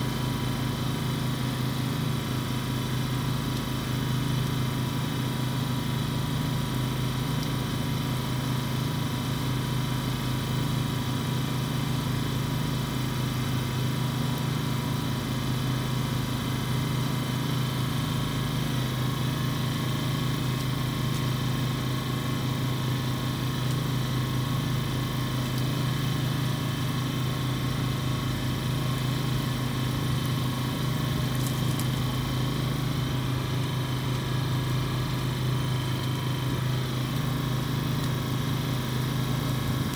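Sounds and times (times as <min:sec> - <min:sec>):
motor idling: 0:00.0 - 0:39.9.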